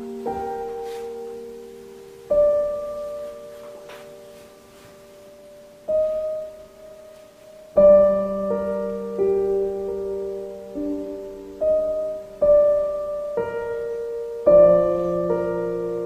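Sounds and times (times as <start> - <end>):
soft solo piano music: 0.0 - 16.0.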